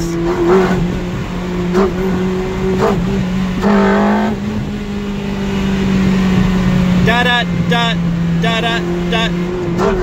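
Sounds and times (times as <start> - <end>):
car engine running inside cabin: 0.0 - 10.0.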